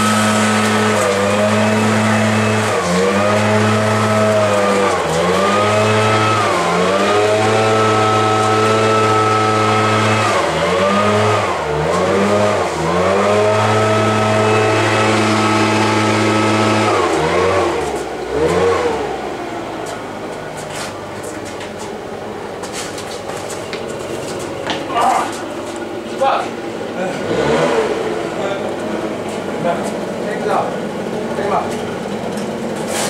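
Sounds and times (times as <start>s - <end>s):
engine revving: 0.0s - 22.5s, 23.8s - 33.0s.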